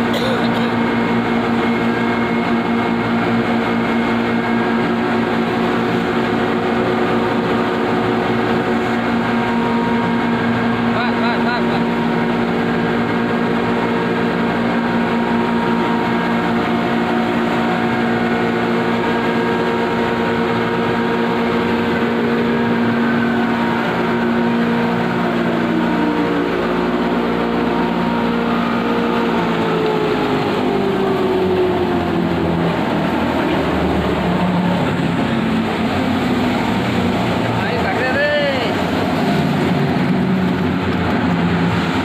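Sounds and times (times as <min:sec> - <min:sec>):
grinding machinery humming: 0:00.0 - 0:42.0.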